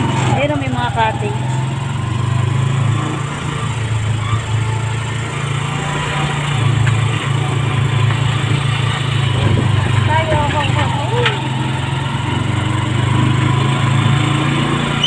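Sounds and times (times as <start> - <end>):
small motorcycle engine droning: 0.0 - 15.0.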